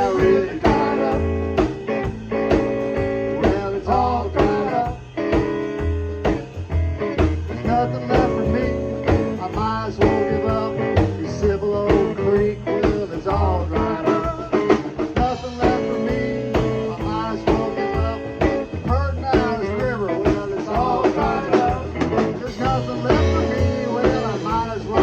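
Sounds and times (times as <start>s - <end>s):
blues band playing instrumental: 0.0s - 25.0s
drum strokes: 0.0s - 25.0s.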